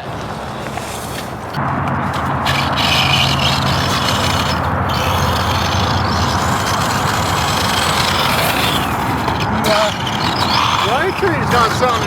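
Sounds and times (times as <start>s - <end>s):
rough drivetrain grinding: 0.0s - 12.0s
electric motor humming: 1.6s - 12.0s.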